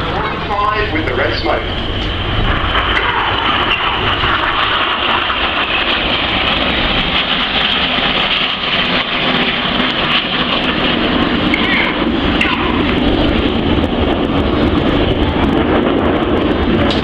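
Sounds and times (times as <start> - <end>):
jet engines roaring overhead: 0.0 - 17.0
low rumble: 0.0 - 17.0.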